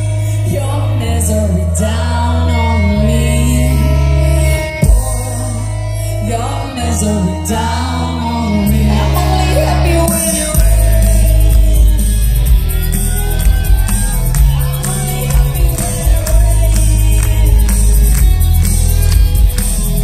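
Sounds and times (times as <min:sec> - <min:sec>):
live rock band playing: 0:00.0 - 0:20.0
woman singing: 0:00.4 - 0:12.1, 0:13.4 - 0:18.7.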